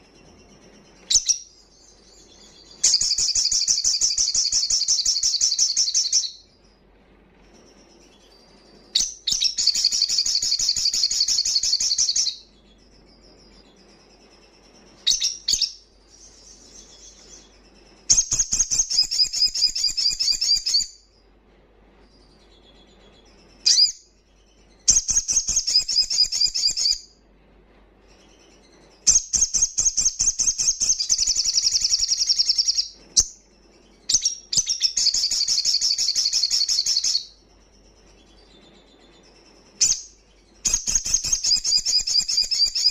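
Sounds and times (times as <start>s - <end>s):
bird chips and twitter: 0.0s - 6.8s, 7.4s - 21.0s, 22.1s - 27.0s, 28.1s - 42.9s
bird singing trilled phrases: 0.0s - 21.3s, 22.2s - 27.2s, 28.1s - 42.9s.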